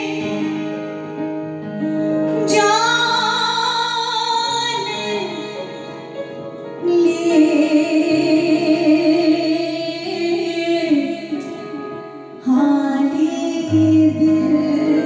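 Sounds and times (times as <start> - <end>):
woman singing: 0.0 - 1.0, 2.3 - 6.1, 6.8 - 15.0.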